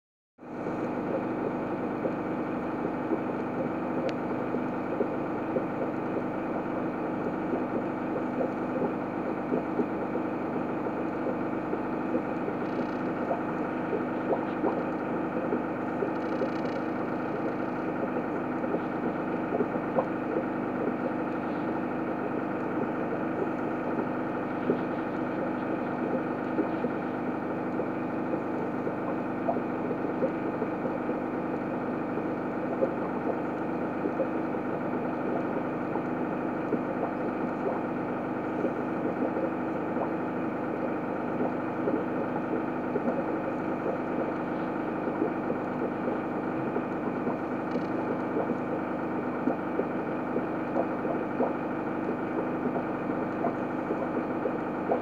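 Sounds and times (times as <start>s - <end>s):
mechanical hum: 0.4s - 55.0s
faint irregular crackle: 0.8s - 55.0s.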